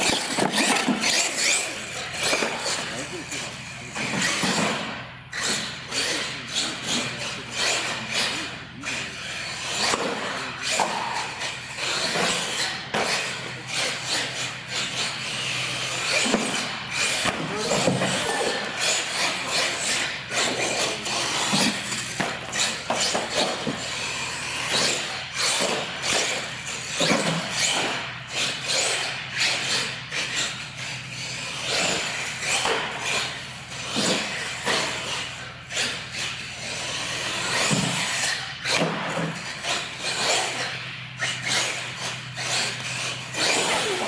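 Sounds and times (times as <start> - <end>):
toy truck motors whining: 0.0 - 44.0.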